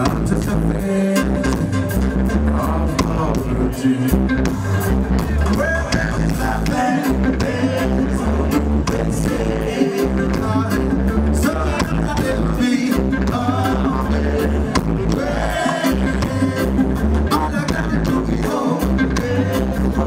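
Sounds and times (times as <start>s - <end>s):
drum kit beat: 0.0s - 20.0s
electric guitar: 0.0s - 20.0s
man singing into a microphone: 0.0s - 20.0s
strong bass notes: 0.0s - 20.0s.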